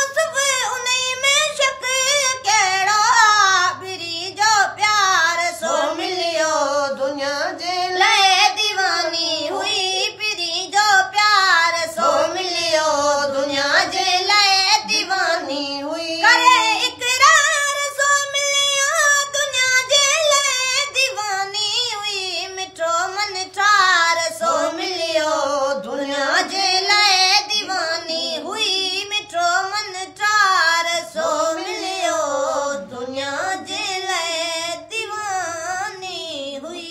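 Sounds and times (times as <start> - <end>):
boy singing unaccompanied: 0.0 - 36.9.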